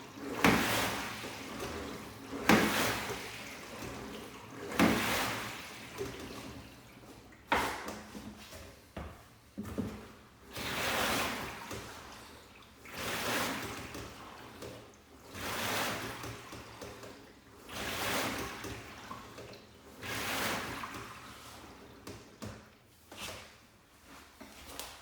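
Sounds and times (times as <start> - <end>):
rowing machine water swishing: 0.0 - 25.0.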